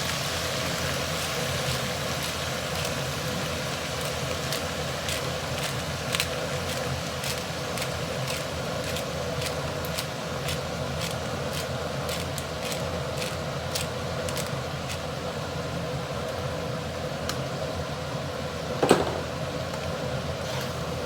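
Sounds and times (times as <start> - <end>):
food frying crackles: 0.0 - 21.0
steady mechanical hum: 0.0 - 21.0.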